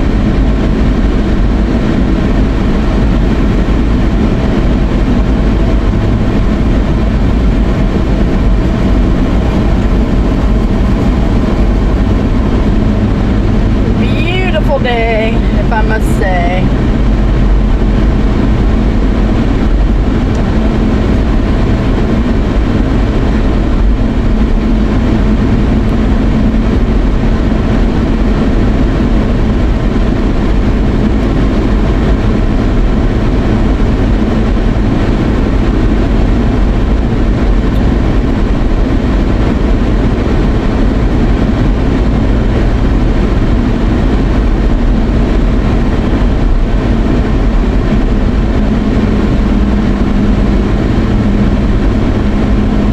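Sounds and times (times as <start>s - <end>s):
vehicle engine and road rumble: 0.0s - 52.9s.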